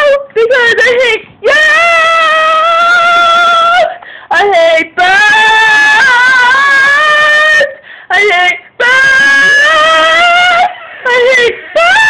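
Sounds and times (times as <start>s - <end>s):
person singing in high wails: 0.0s - 12.0s.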